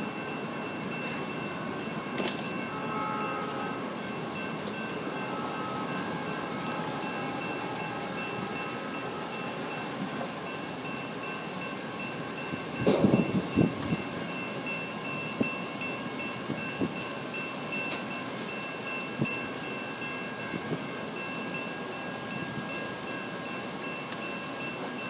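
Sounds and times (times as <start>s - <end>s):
crossing bell ringing: 0.0s - 25.0s
train rumbling past: 0.0s - 25.0s.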